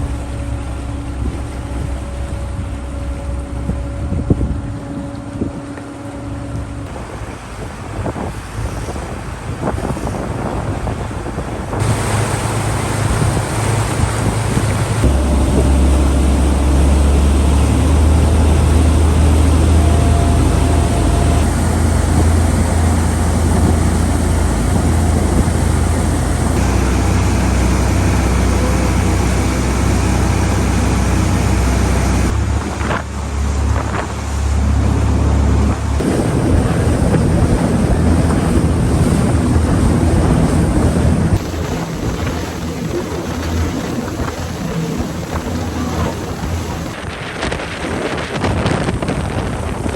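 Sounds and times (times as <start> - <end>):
ferry engines droning: 0.0 - 49.9
rushing water: 0.0 - 49.9
wind on microphone: 0.0 - 49.9.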